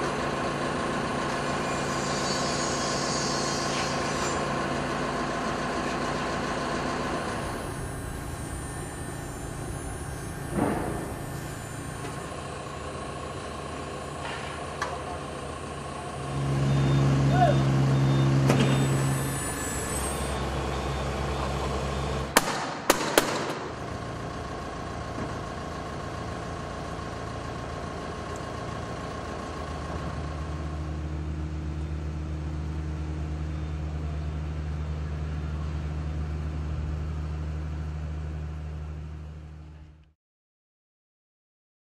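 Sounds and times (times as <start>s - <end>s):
engine running steadily: 0.0s - 40.1s.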